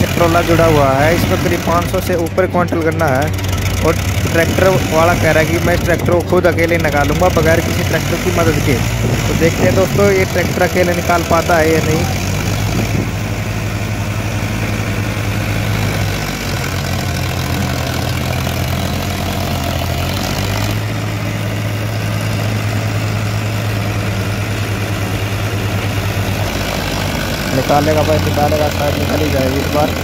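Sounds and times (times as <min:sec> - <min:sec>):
tractor diesel engine straining: 0:00.0 - 0:30.0.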